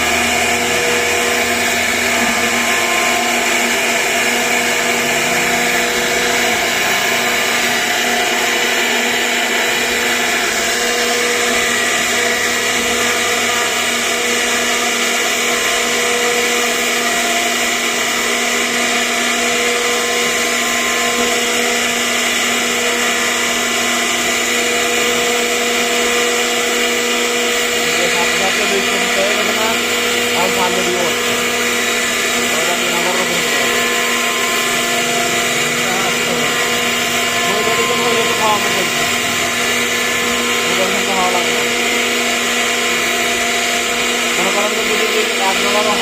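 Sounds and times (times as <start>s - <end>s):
router spindle whine carving wood: 0.0s - 46.0s.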